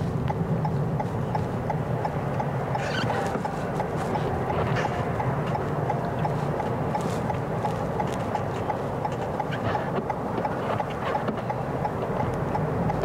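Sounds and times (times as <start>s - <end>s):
car turn signal ticking: 0.0s - 13.0s
low hum of car driving: 0.0s - 13.0s.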